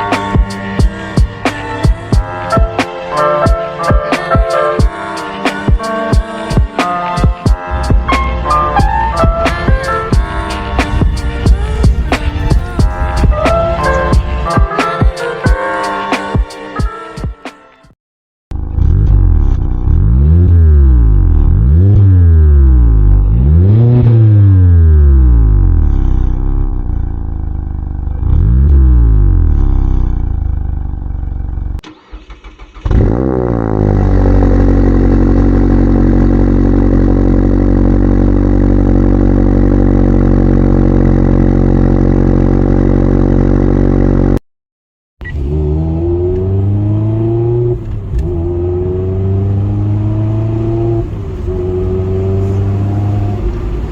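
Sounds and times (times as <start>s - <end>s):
car engine revving: 0.0s - 16.2s, 18.5s - 44.4s, 45.2s - 53.9s.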